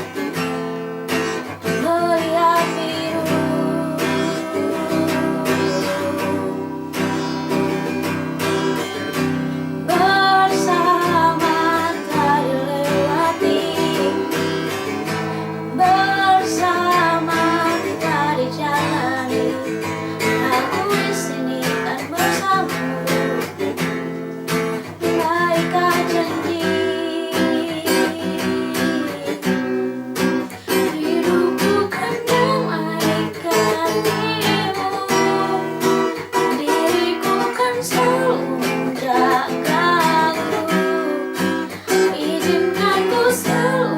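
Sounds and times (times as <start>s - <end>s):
strummed acoustic guitar: 0.0s - 43.9s
person singing: 1.4s - 8.1s, 9.9s - 24.0s, 25.0s - 29.7s, 30.4s - 43.9s.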